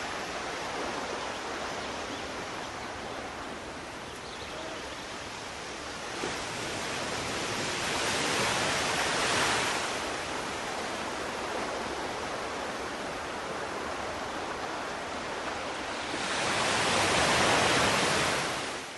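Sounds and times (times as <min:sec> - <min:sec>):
sea waves washing in: 0:00.0 - 0:04.1, 0:04.8 - 0:18.9.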